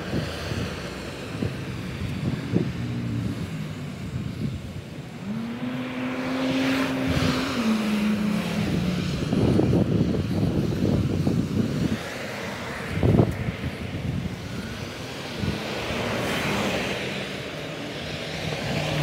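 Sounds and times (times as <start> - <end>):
car passing: 0.0 - 19.0
wind buffeting microphone: 0.0 - 19.0.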